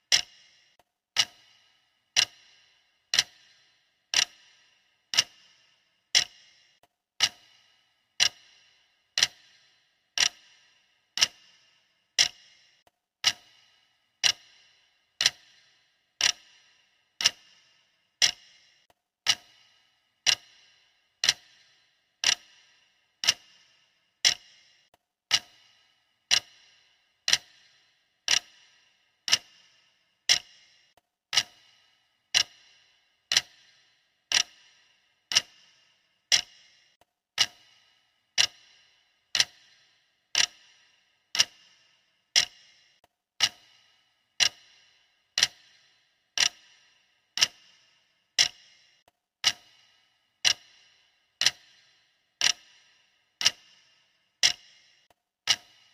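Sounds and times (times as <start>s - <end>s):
clock ticking: 0.0s - 55.9s.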